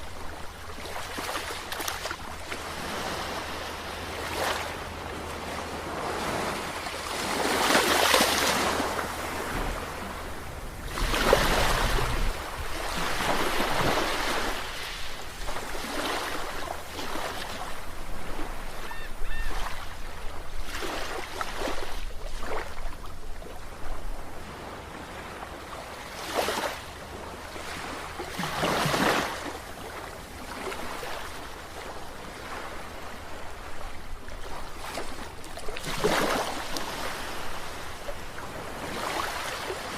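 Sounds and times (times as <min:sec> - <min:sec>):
sea waves breaking: 0:00.0 - 0:23.0, 0:23.7 - 0:39.9.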